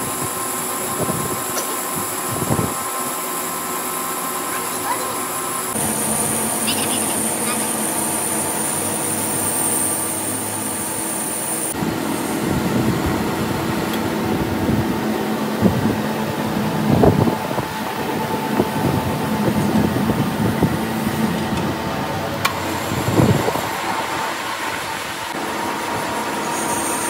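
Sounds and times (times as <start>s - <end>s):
high whine: 0.0s - 27.0s
metal lathe humming: 0.1s - 27.0s.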